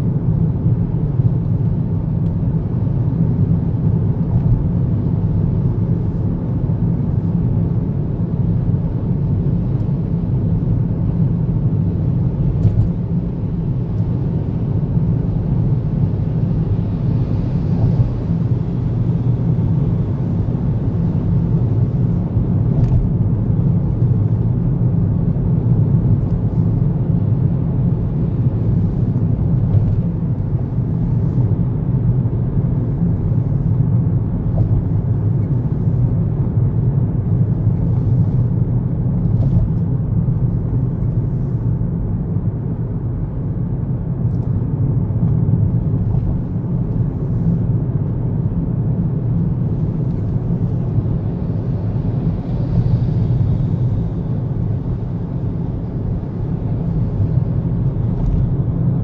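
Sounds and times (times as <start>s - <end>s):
car cruising at speed inside cabin: 0.0s - 59.0s.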